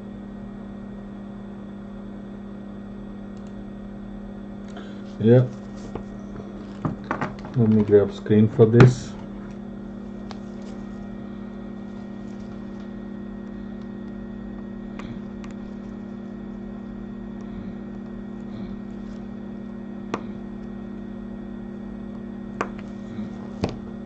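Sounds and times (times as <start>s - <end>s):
electrical hum of bench equipment: 0.0s - 24.0s.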